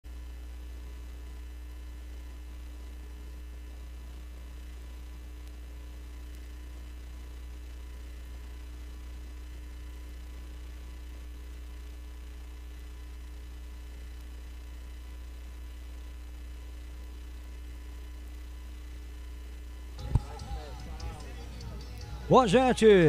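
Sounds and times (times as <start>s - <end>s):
low electrical hum: 0.1s - 23.0s.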